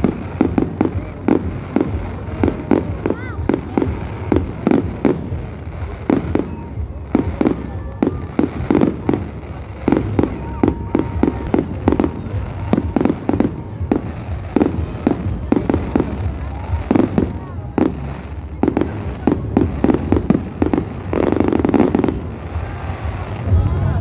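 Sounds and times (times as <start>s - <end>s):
fireworks bangs: 0.0s - 24.0s
steady low rumble: 0.0s - 24.0s.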